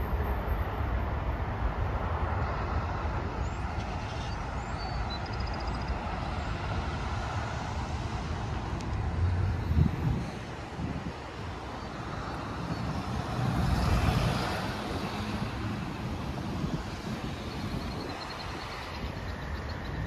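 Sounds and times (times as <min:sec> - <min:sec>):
highway traffic rushing: 0:00.0 - 0:20.0.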